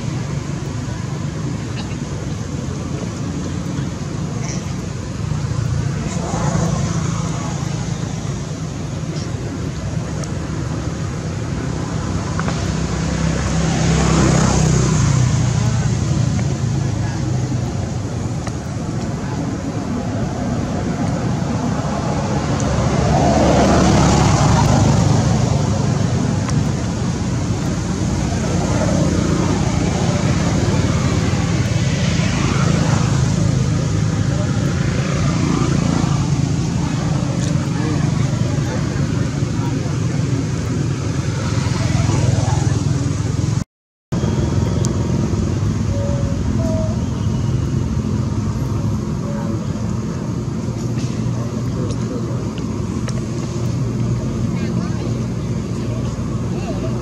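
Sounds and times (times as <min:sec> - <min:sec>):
loud low outdoor rumble: 0:00.0 - 0:57.0.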